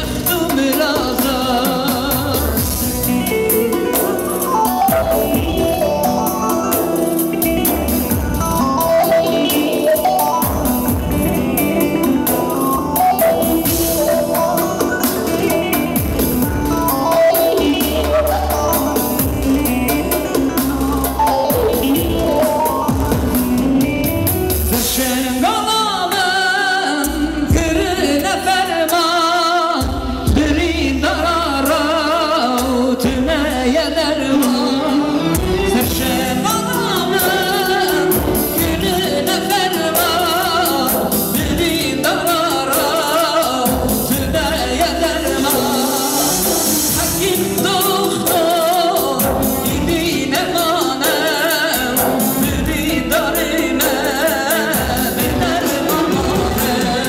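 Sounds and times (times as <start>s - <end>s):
drum rhythm: 0.0s - 26.2s, 27.0s - 29.1s, 29.7s - 57.0s
electronic keyboard: 0.0s - 57.0s
man singing with vibrato: 0.0s - 57.0s.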